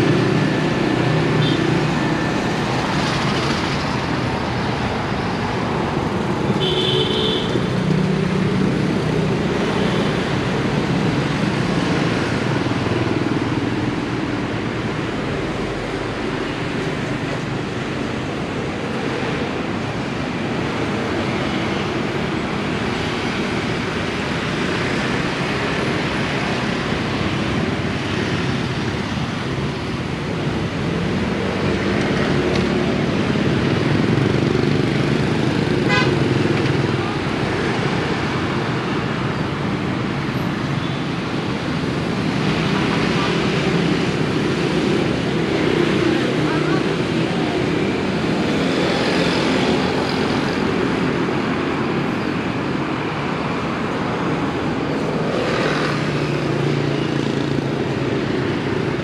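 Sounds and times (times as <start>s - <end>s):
cars and motorbikes passing: 0.0s - 59.0s.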